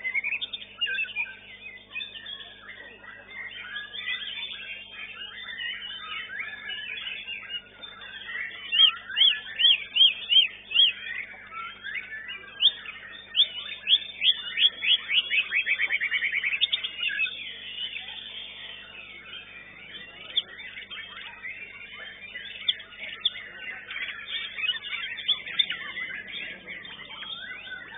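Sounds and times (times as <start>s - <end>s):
bird chirps and whistles: 0.0s - 27.9s
bird trill: 0.0s - 27.9s.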